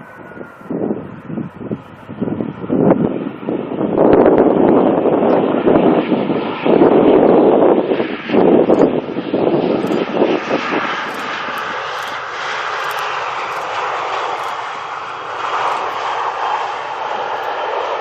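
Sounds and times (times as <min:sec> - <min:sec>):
jet airliner passing overhead: 0:00.0 - 0:18.0
wind buffeting microphone: 0:00.0 - 0:18.0.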